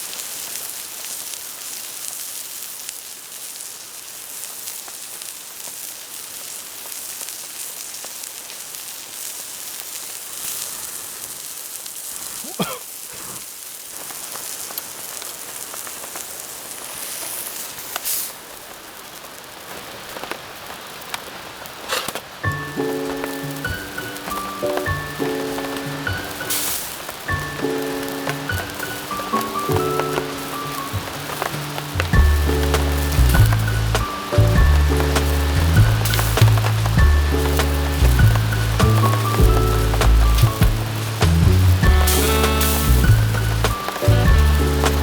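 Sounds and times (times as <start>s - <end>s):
campfire crackling: 0.0s - 45.0s
rain falling: 0.0s - 45.0s.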